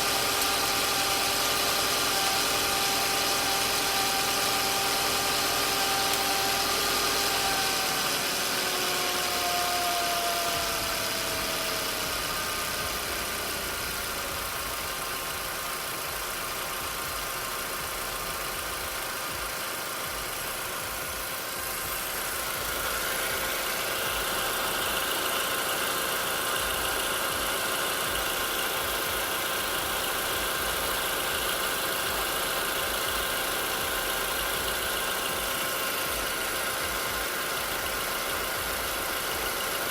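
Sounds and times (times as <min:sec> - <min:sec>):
turbo car engine running: 0:00.0 - 0:39.9
turbocharger knocking: 0:00.0 - 0:39.9.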